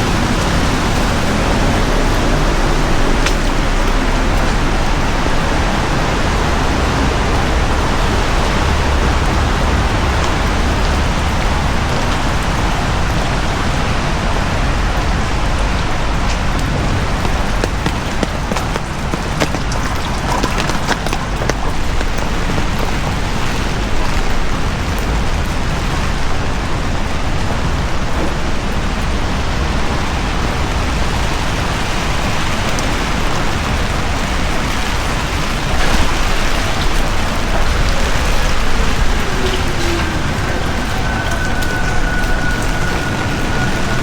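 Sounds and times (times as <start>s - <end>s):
heavy rain on street: 0.0s - 44.0s.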